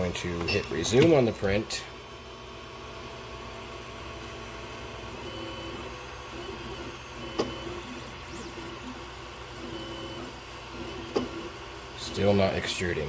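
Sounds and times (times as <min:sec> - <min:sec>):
stepper motors whining: 0:00.2 - 0:12.9.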